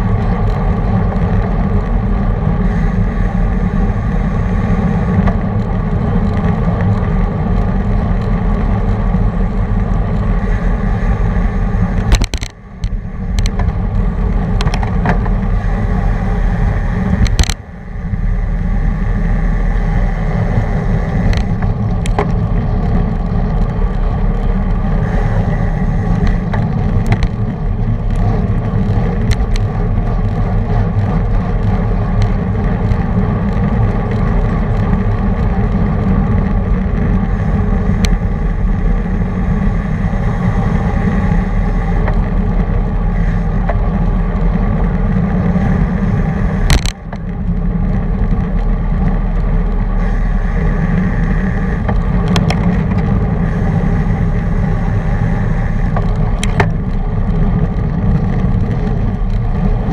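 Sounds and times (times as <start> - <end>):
bicycle tyre and drivetrain noise: 0.0 - 59.9
wind buffeting microphone: 0.0 - 59.9.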